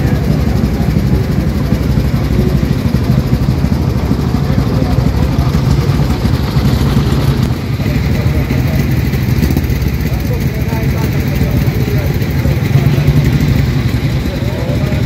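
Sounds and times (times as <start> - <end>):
car and motorcycle engines idling: 0.0 - 15.0.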